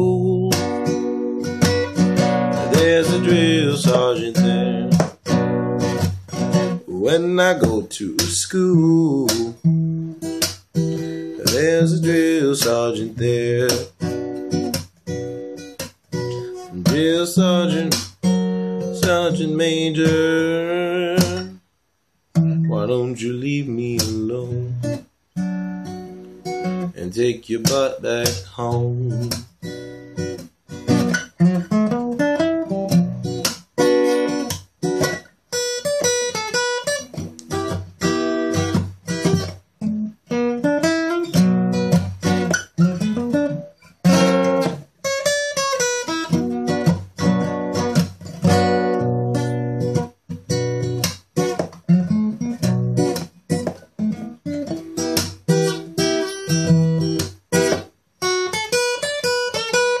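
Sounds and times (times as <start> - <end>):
acoustic guitar playing: 0.0 - 60.0.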